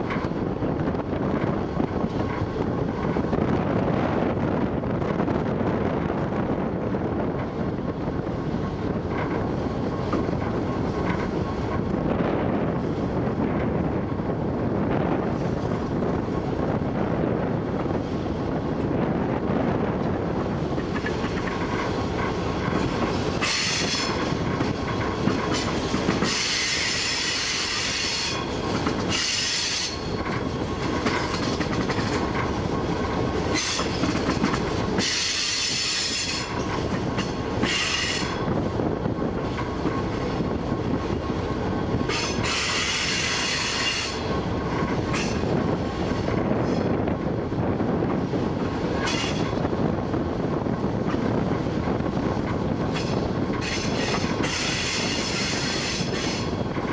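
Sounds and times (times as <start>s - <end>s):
model train rattling rumble: 0.0s - 56.9s.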